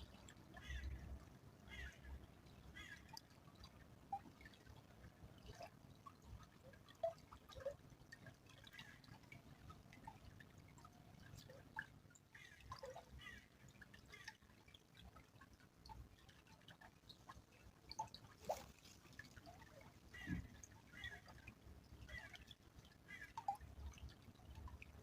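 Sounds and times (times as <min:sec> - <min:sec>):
small stream trickling: 0:00.0 - 0:25.0
water drips and plinks: 0:00.0 - 0:25.0.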